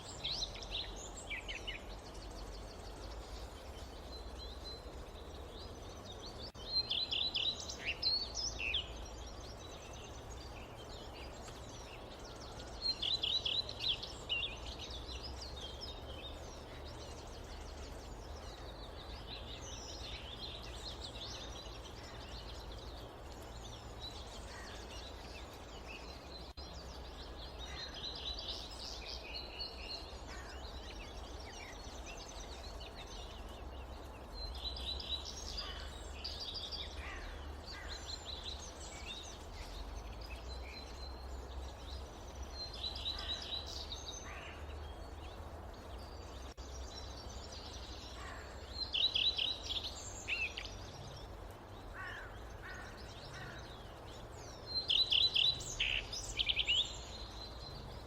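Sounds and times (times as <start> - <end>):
birds chirping and trilling: 0.0 - 58.0
low rumble of wind: 0.0 - 58.0.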